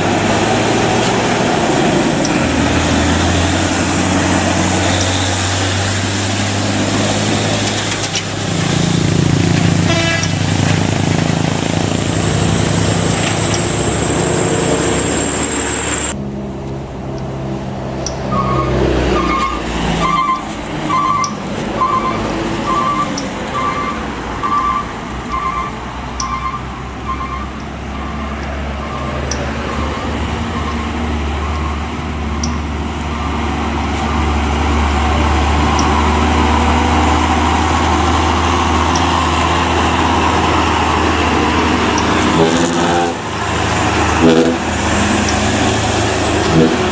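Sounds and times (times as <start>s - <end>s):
truck diesel engine droning: 0.0s - 46.9s.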